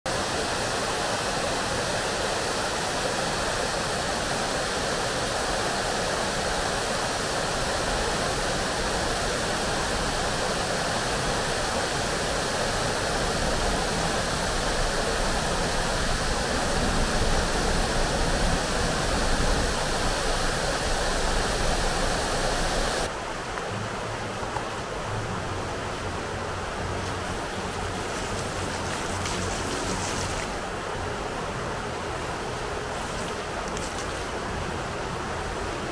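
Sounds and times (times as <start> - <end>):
fountain water splashing and rushing: 0.1 - 35.9.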